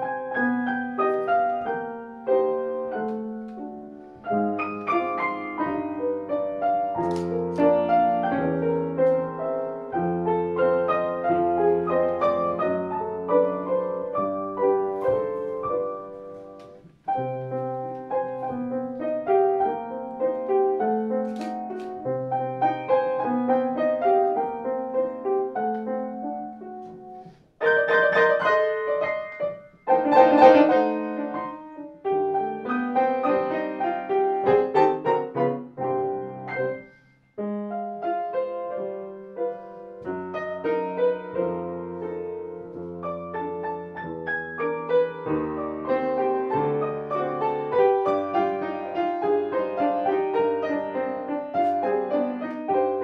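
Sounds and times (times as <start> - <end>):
classical piano piece: 0.0 - 53.0.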